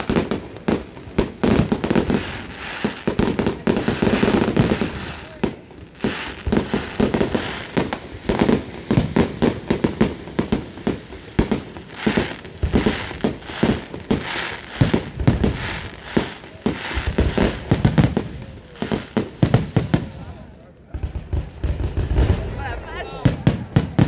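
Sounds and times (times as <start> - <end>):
firework crackling: 0.0 - 24.0.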